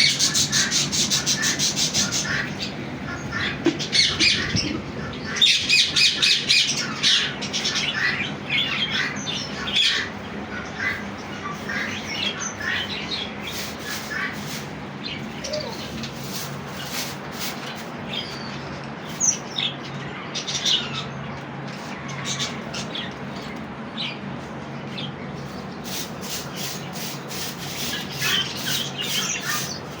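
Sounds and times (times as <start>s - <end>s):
parrots chirping and squawking: 0.0s - 21.2s, 24.9s - 30.0s.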